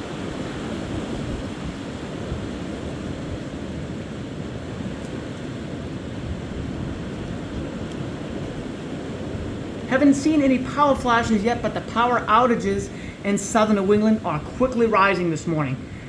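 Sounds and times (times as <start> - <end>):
strong storm wind gusting: 0.0 - 16.0
wind buffeting microphone: 0.0 - 16.0.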